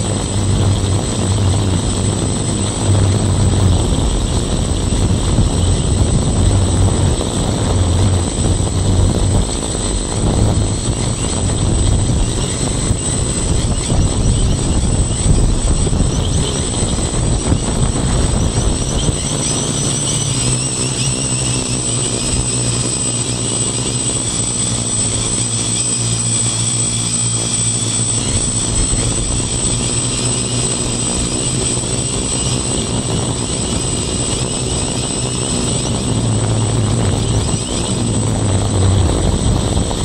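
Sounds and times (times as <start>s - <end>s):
quadcopter motors buzzing: 0.0s - 40.0s.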